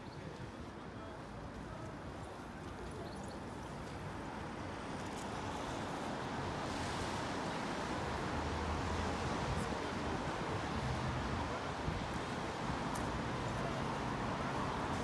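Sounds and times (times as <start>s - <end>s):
road noise of traffic: 0.0s - 15.0s.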